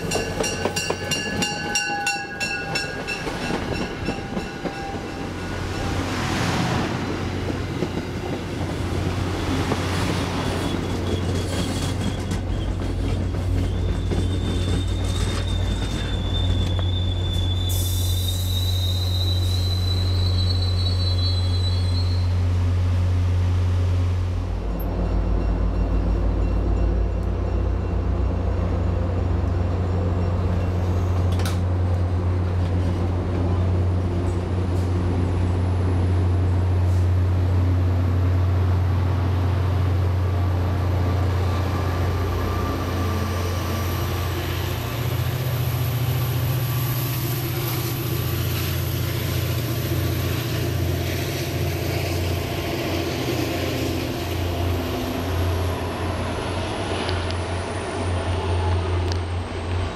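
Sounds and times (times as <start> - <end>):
diesel train engine droning: 0.0 - 59.9
train wheel and rail noise: 0.0 - 59.9.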